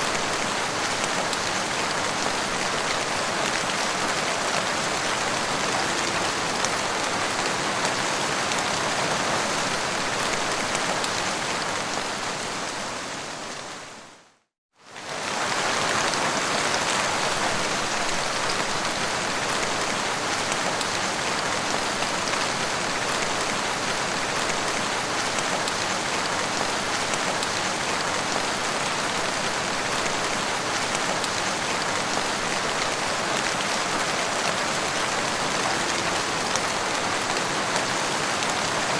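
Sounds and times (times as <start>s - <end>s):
heavy rain on windscreen: 0.0s - 13.8s, 14.9s - 38.9s.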